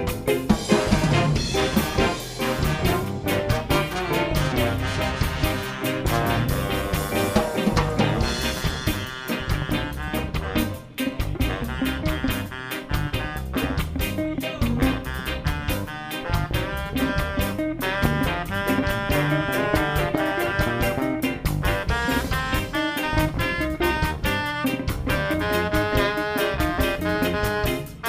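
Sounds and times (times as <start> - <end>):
drum kit beat: 0.0 - 28.0
live band playing: 0.0 - 28.0.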